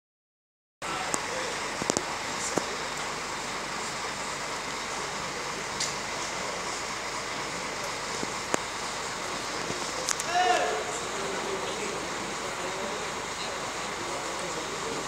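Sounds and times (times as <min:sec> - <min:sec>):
steady rushing outdoor noise: 0:00.8 - 0:15.0.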